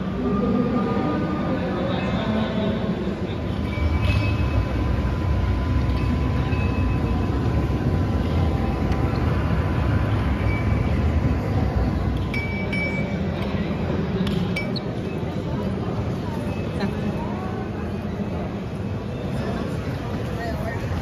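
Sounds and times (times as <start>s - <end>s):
exhibition hall crowd din: 0.0s - 21.0s
faint high hum: 0.0s - 21.0s.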